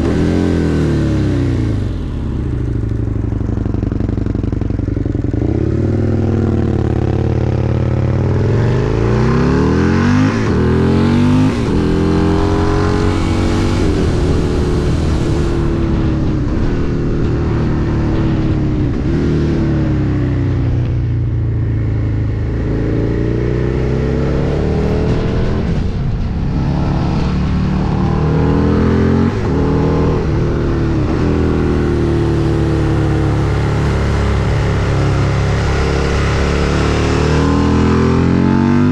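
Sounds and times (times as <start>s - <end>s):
motorcycle engine revving: 0.0s - 38.9s
wind rushing over microphone: 0.0s - 38.9s.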